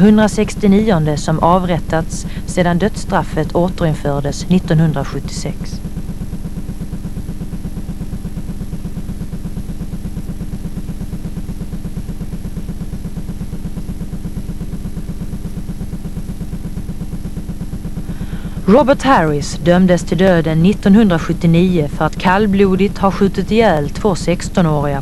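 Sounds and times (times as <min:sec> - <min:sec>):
low mechanical drone pulsing: 0:00.0 - 0:25.0.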